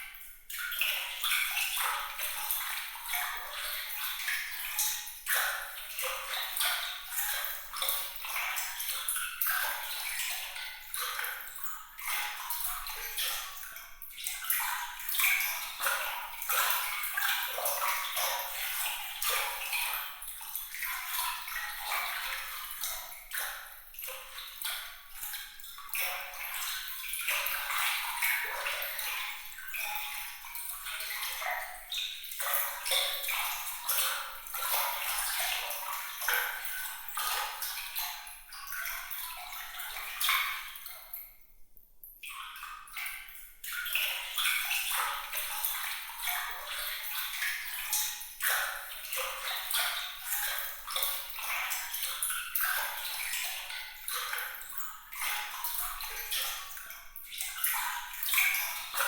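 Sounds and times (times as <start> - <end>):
water trickling and splashing: 0.0 - 41.5, 42.2 - 59.0.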